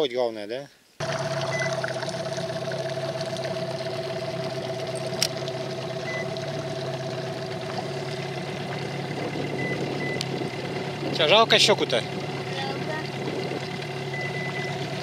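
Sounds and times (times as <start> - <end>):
outboard motor running: 1.0 - 15.0.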